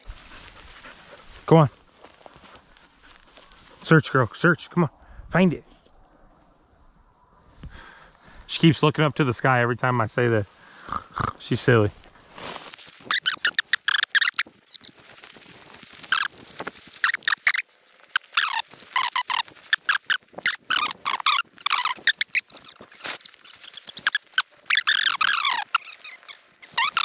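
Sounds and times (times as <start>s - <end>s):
dry grass rustling: 0.0s - 27.0s.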